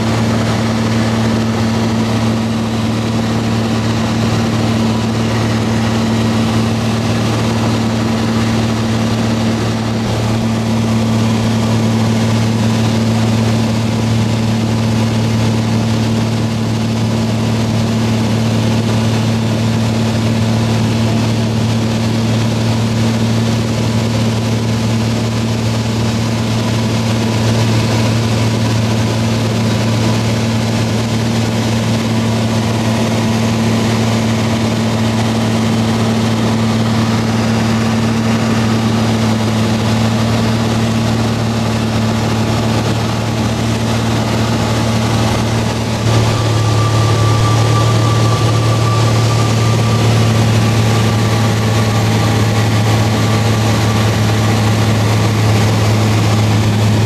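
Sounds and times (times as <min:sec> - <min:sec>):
airplane engine droning in cabin: 0:00.0 - 0:57.0.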